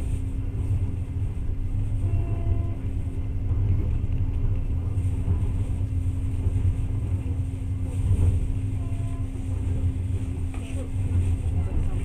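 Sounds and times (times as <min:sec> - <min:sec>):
constant hum: 0:00.0 - 0:12.0
train rumble inside carriage: 0:00.0 - 0:12.0.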